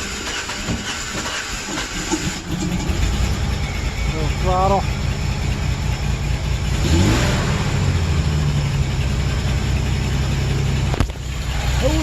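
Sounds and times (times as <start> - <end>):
misfiring engine revving: 0.0 - 12.0.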